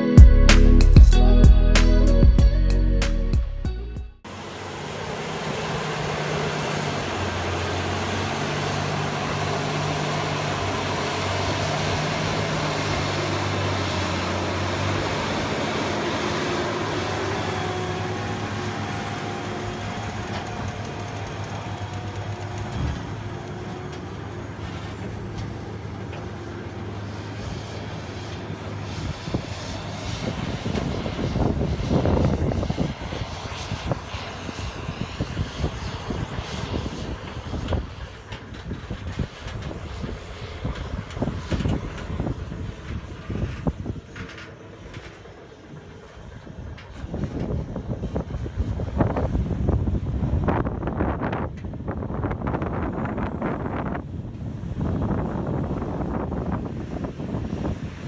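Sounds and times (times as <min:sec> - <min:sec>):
tractor diesel engine under load: 0:04.3 - 0:58.0.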